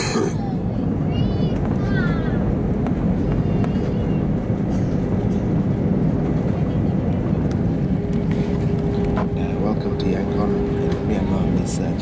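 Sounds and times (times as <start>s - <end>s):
aircraft engines and airflow rumble: 0.0s - 12.0s.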